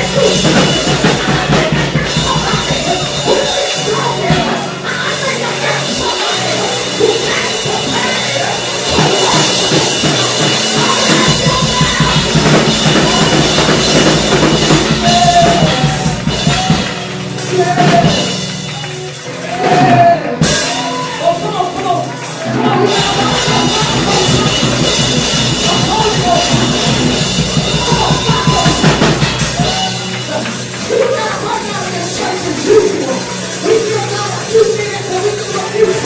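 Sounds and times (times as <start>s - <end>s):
driving drum beat: 0.0s - 36.0s
live church music: 0.0s - 36.0s
voices singing: 0.0s - 36.0s.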